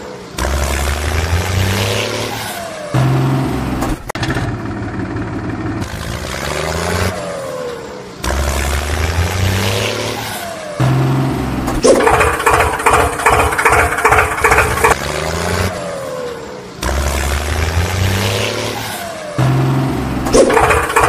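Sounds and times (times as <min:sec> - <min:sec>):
engine humming and chugging: 0:00.0 - 0:21.0.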